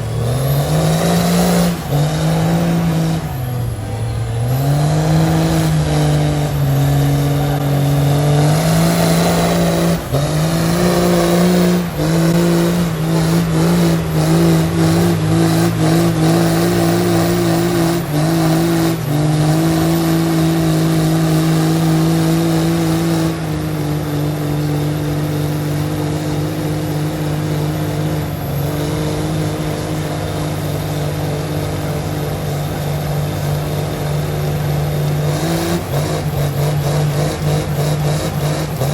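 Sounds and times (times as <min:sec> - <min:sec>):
truck engines at high revs: 0:00.0 - 0:38.9.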